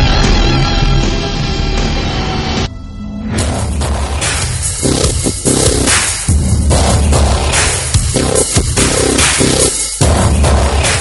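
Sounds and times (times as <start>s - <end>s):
background music: 0.0s - 11.0s
noisy electronic music: 0.0s - 11.0s
low bass: 1.3s - 10.9s.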